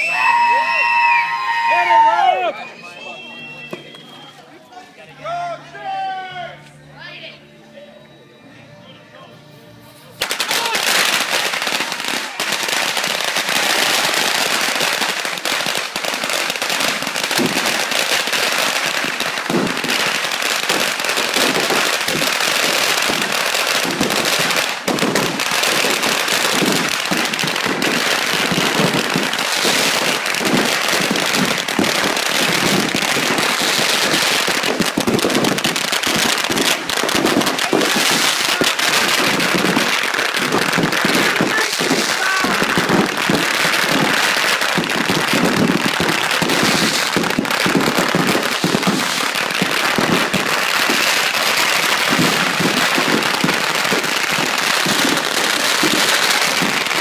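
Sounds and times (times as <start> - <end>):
firecracker belt crackling: 10.0 - 57.0.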